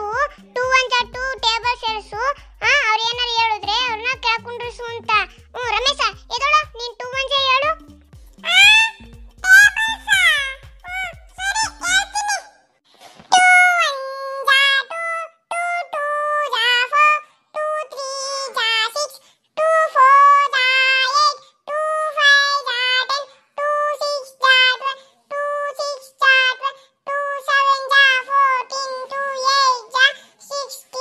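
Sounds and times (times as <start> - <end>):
high child-like voice singing: 0.0 - 12.6, 13.3 - 31.0.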